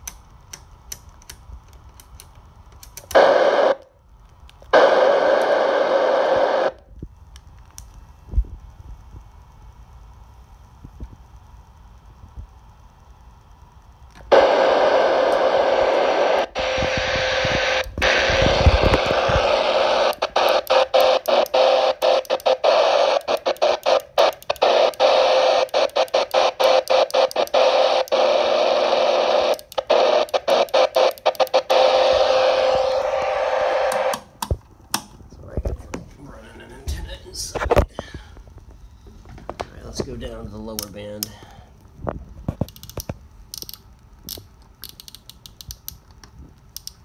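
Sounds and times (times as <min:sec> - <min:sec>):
radio static hissing with whine: 0:00.0 - 0:45.0.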